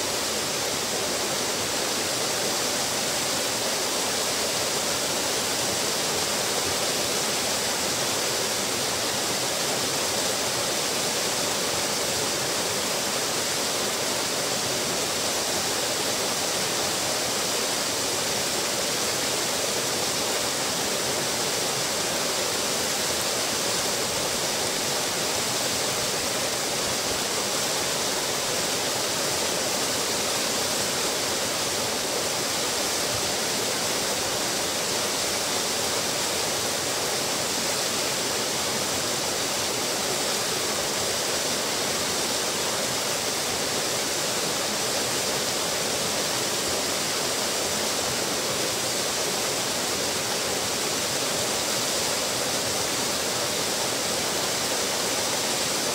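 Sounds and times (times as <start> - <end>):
waterfall splashing into a pool: 0.0 - 55.9.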